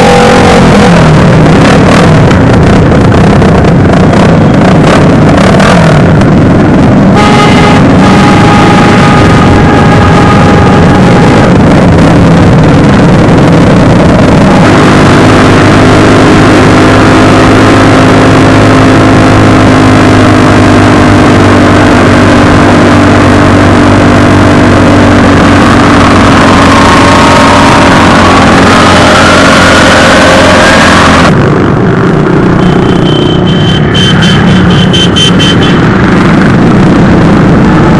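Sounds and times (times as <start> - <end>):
motorcycle engines running: 0.0 - 37.9.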